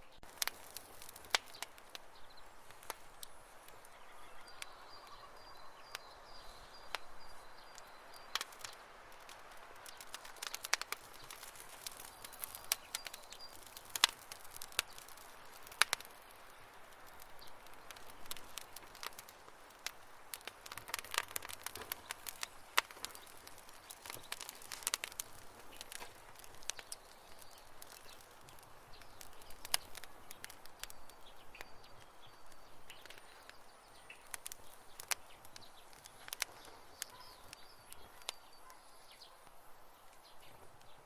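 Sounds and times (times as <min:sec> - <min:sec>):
campfire crackling: 0:00.0 - 0:41.0
soft hiss of fire: 0:00.0 - 0:41.0.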